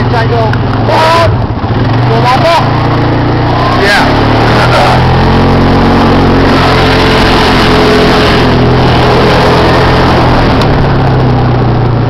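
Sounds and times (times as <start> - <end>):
quad engine running: 0.0 - 12.0
wind and tyres rushing: 0.1 - 12.0.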